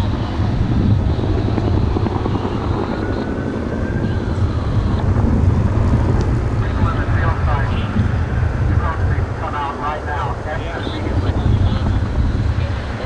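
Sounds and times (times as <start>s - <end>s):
helicopter rotor and engine: 0.0s - 13.0s.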